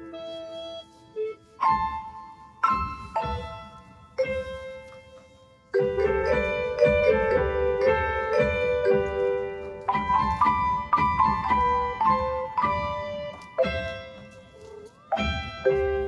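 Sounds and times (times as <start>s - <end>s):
instrumental piano music: 0.0s - 16.0s.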